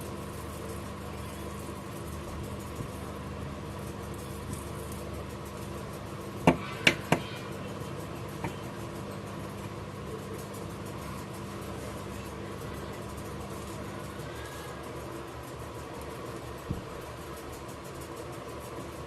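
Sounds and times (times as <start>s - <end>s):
soldering station hum: 0.0s - 19.0s.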